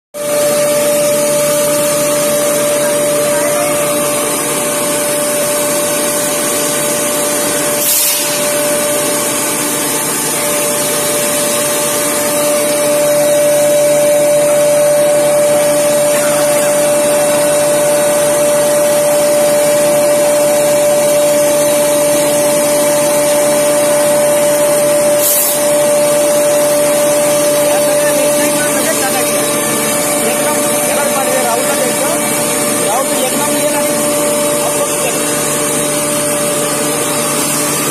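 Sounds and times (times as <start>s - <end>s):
constant machine whine: 0.2s - 37.9s
grinding machine drone: 0.2s - 37.9s.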